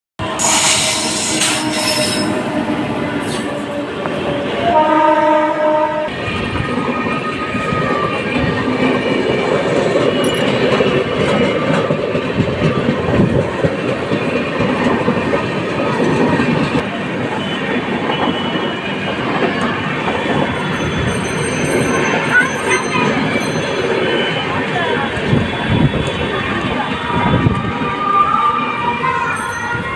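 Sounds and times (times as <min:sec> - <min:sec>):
train rumbling past: 0:00.2 - 0:29.9.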